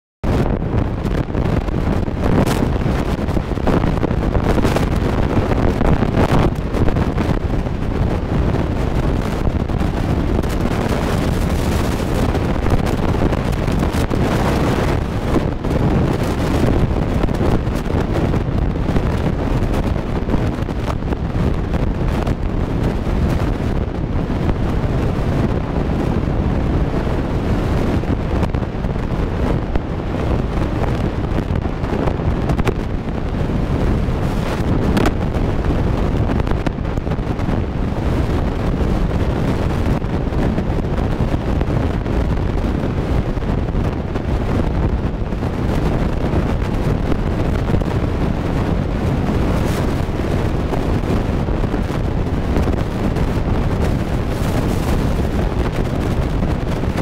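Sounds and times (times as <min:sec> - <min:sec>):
road noise: 0:00.2 - 0:57.0
wind noise on microphone: 0:00.2 - 0:57.0.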